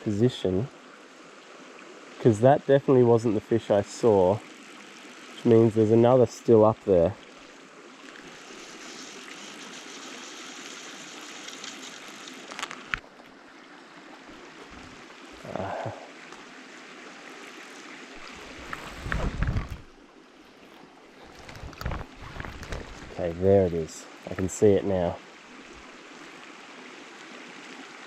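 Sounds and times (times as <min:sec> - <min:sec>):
stream water running: 0:00.0 - 0:28.0.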